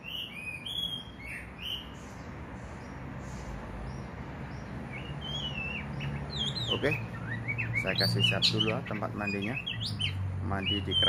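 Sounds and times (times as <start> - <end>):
bird chirping calls: 0.0 - 11.0.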